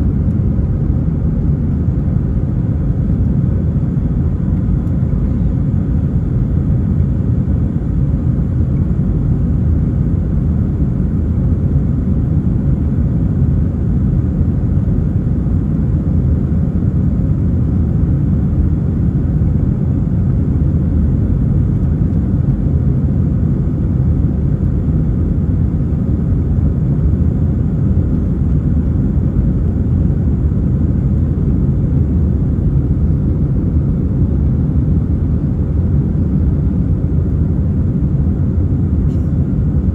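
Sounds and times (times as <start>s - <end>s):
faint steady hum: 0.0s - 39.9s
jet engines rumbling: 0.0s - 39.9s.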